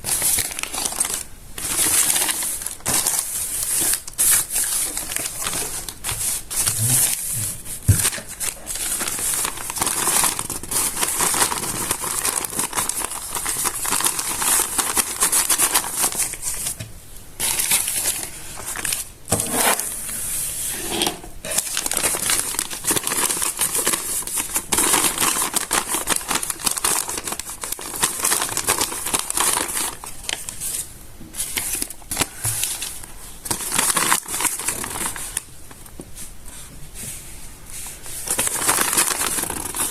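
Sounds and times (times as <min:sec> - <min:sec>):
stiff paper pages crinkling: 0:00.0 - 0:16.8, 0:17.4 - 0:20.0, 0:21.5 - 0:36.4, 0:37.8 - 0:39.9.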